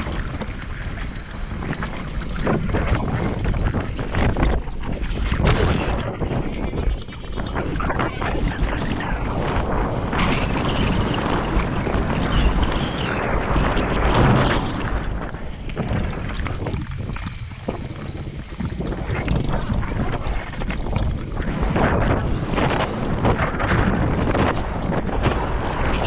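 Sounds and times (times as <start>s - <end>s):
bike rattling: 0.0s - 26.0s
tyres rumbling on dirt trail: 0.0s - 26.0s
wind buffeting microphone: 0.0s - 26.0s.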